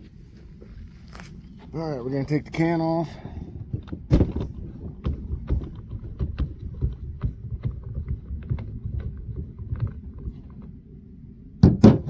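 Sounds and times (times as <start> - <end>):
low rumbling: 0.0 - 12.0.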